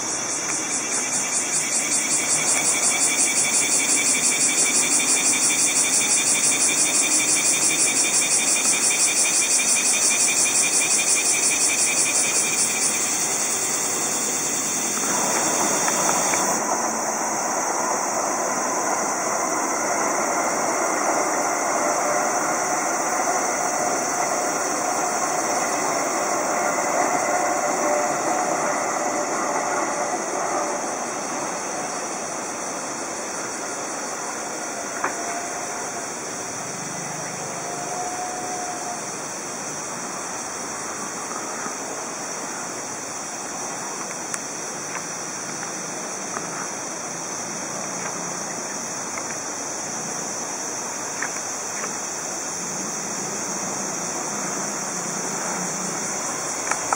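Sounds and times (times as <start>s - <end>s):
distant electric train rumbling: 0.0s - 56.9s
high-pitched hiss: 0.0s - 56.9s.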